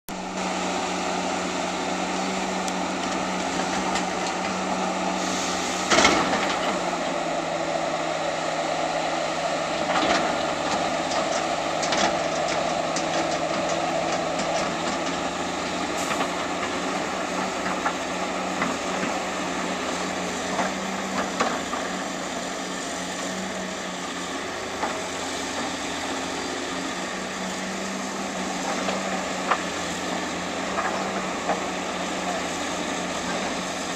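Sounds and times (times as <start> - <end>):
diesel machinery engine running: 0.1 - 33.9.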